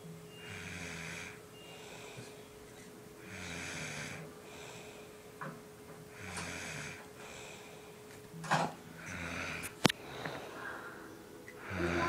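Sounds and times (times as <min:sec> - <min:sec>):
boy snoring: 0:00.3 - 0:05.2, 0:06.1 - 0:12.0.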